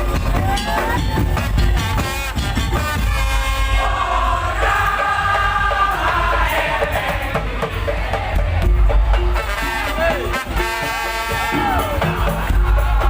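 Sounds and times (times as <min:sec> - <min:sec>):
heavy continuous drum beat: 0:00.0 - 0:13.0.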